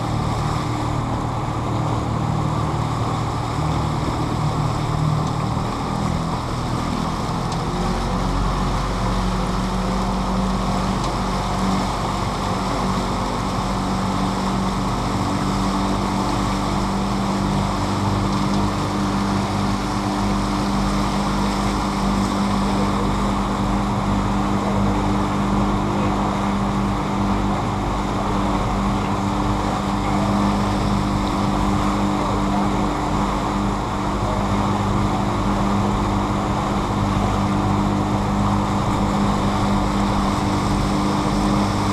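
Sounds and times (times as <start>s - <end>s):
boat motor humming: 0.0s - 41.9s
water rushing: 0.0s - 41.9s.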